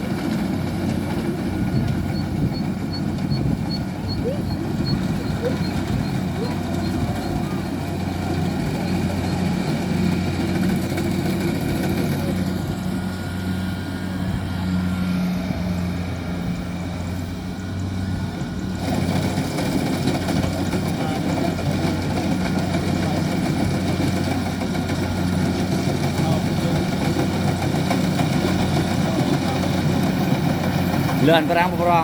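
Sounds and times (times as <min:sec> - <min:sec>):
combine harvester diesel engine drone: 0:00.0 - 0:32.0.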